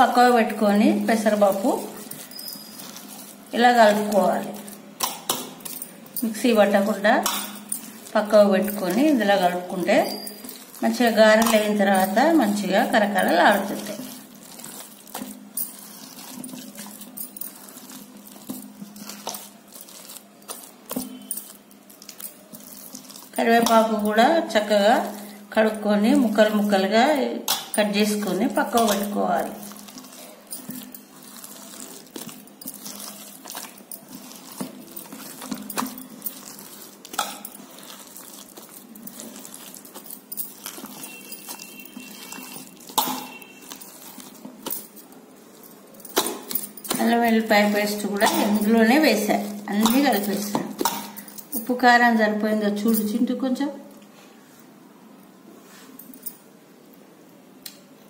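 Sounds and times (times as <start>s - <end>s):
hand mushing dough: 0.0s - 52.4s
glass bangles clinking on bowl: 0.0s - 53.2s.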